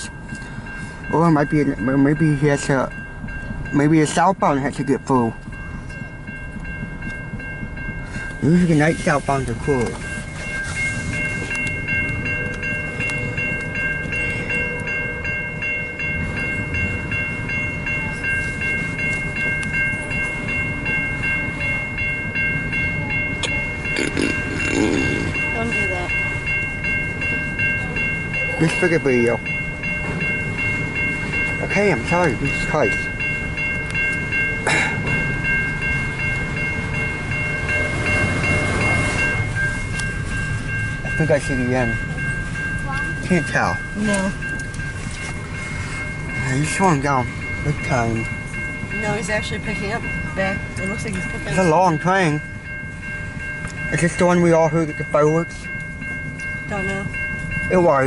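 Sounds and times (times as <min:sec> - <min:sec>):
crossing warning bell ringing: 0:00.0 - 0:58.0
freight train cars rumbling: 0:00.0 - 0:58.0.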